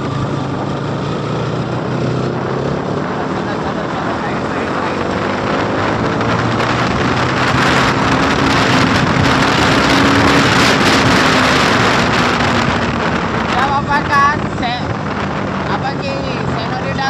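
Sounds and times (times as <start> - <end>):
motorcycle engine at speed: 0.0 - 17.0
wind rush on microphone: 0.0 - 17.0.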